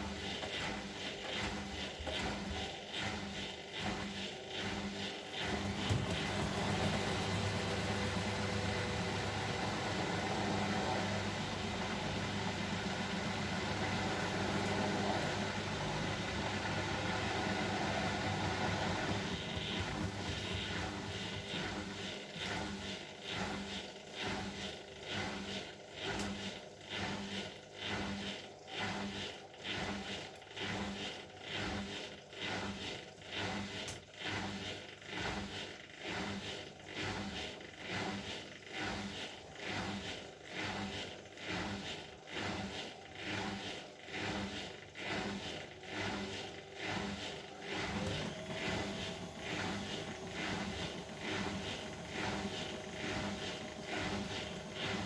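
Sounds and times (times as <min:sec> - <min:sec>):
washing machine motor humming: 0:00.0 - 0:55.0.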